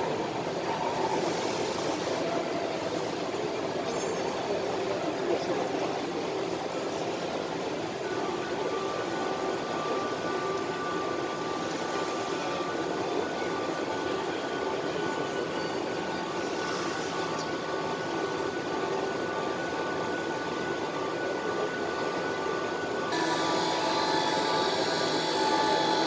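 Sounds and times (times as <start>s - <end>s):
faint steady whine: 0.0s - 26.0s
machine running noise: 0.0s - 26.0s.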